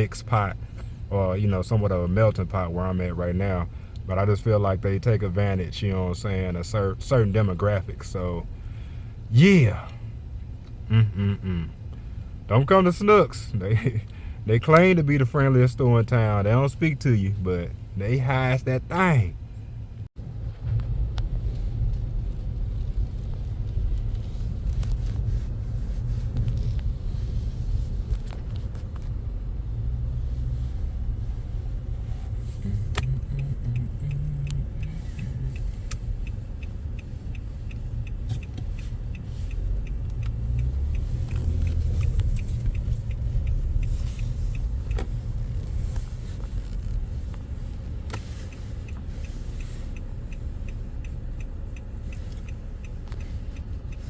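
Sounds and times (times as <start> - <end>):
car cabin road rumble: 0.0 - 54.0
turn signal ticking: 0.0 - 54.0.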